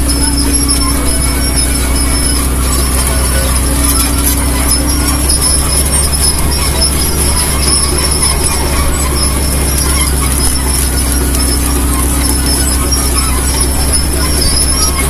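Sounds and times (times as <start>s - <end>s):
excavator diesel engine running: 0.0s - 15.0s
high-pitched metallic squeal: 0.0s - 15.0s.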